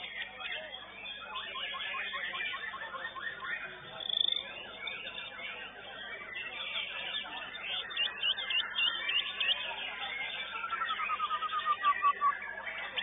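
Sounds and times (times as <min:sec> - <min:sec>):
songbird whistling and trilling: 0:01.0 - 0:05.4, 0:06.1 - 0:13.0.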